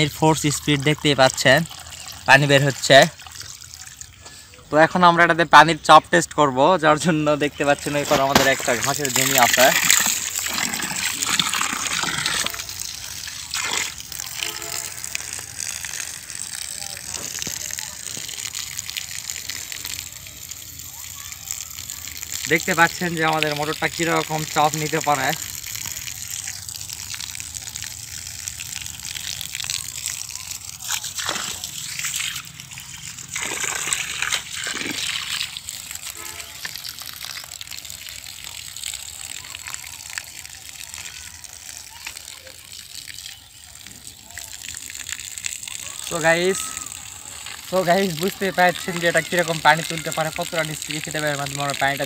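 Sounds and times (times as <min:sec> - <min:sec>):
water splashing on ground: 0:00.0 - 0:04.6, 0:07.0 - 0:52.0
water jetting from hose: 0:00.0 - 0:52.0.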